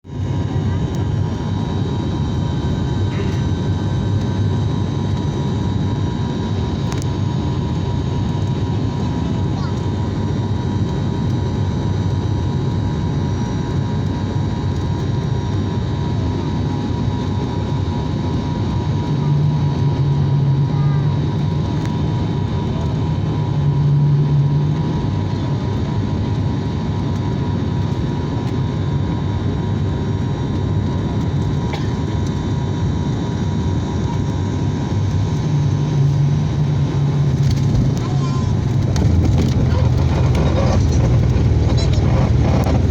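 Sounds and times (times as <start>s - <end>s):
turboprop engines droning: 0.0s - 42.9s.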